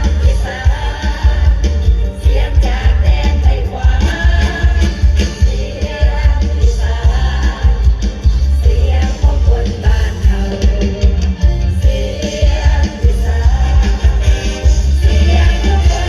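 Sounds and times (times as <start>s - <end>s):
heavy bass and drum beat: 0.0s - 16.0s.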